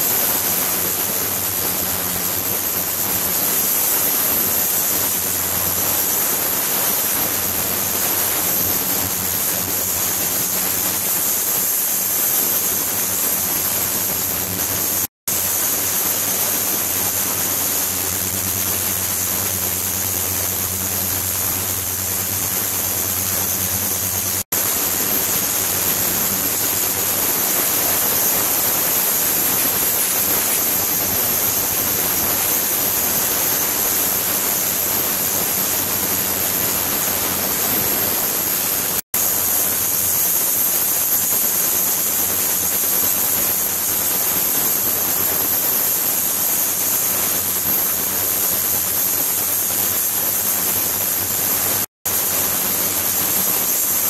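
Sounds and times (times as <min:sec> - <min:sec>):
rushing water in ultrasonic tank: 0:00.0 - 0:54.0.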